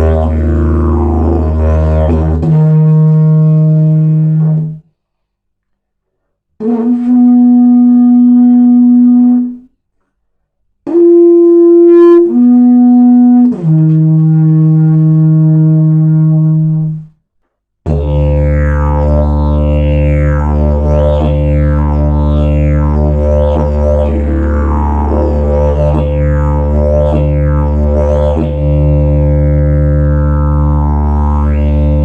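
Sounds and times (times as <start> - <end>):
didgeridoo playing: 0.0 - 4.8, 6.6 - 9.6, 10.9 - 17.0, 17.9 - 32.0.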